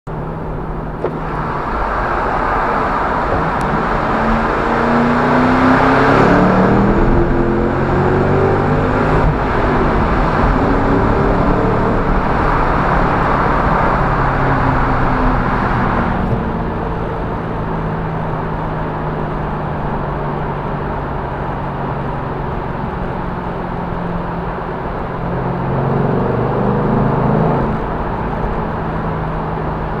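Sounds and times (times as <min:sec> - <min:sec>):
car engine revving and idling: 0:00.1 - 0:30.0.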